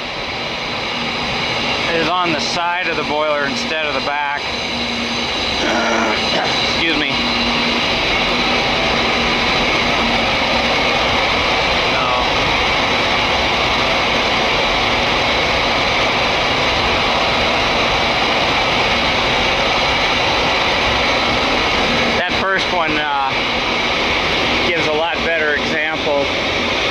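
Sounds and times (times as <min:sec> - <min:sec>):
boiler burners roaring: 0:00.0 - 0:26.9
high whine: 0:00.0 - 0:26.9.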